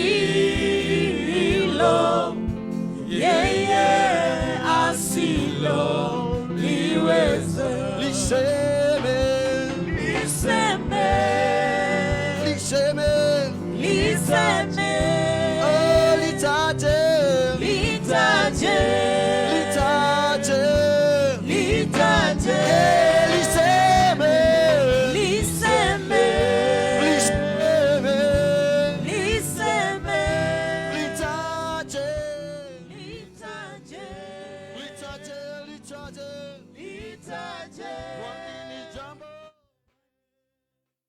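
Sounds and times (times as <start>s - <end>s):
percussion: 0.0s - 35.4s
people singing gospel song: 0.0s - 39.5s.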